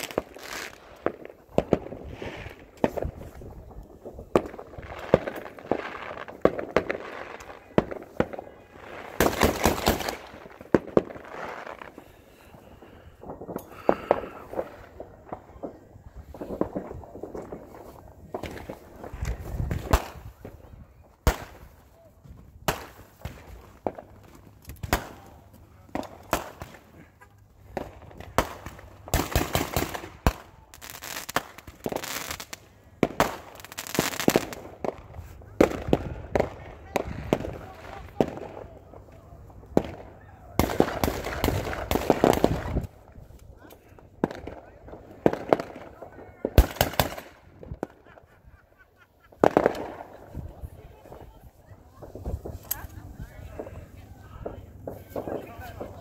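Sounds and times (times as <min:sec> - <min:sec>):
fireworks bangs: 0:00.0 - 0:56.0
fireworks crackling pops: 0:00.0 - 0:56.0.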